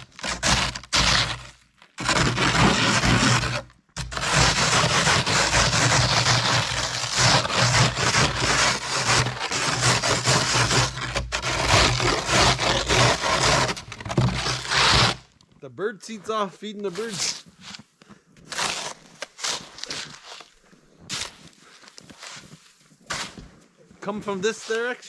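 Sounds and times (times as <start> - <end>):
snow shovel scraping snow: 0.0 - 15.2, 16.1 - 25.0.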